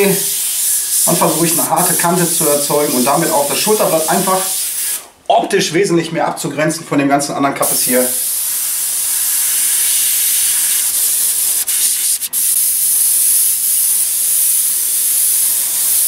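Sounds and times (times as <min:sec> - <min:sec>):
airbrush hissing: 0:00.0 - 0:05.1, 0:07.6 - 0:16.0.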